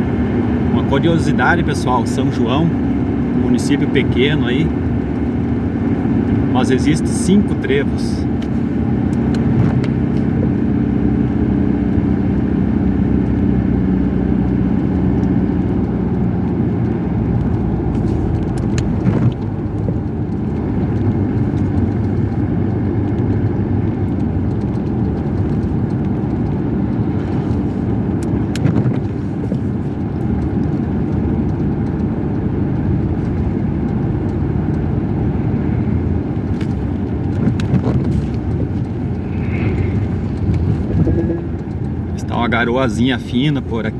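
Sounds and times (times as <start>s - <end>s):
car engine and tyre noise: 0.0s - 43.9s.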